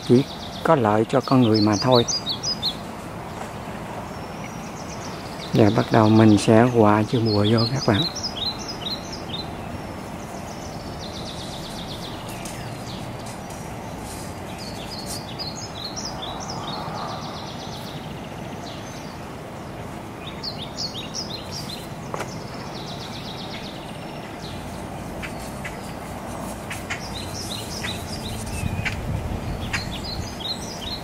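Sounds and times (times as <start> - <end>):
background hiss: 0.0 - 31.0
birds chirping and trilling: 0.0 - 31.0.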